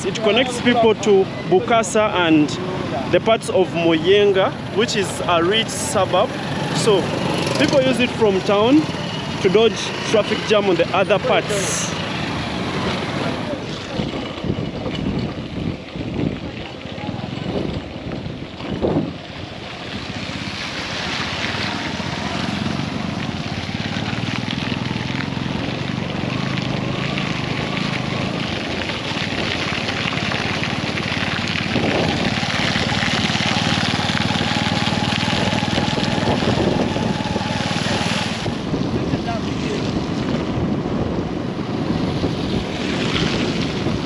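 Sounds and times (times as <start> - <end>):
traffic rumble: 0.0 - 44.0.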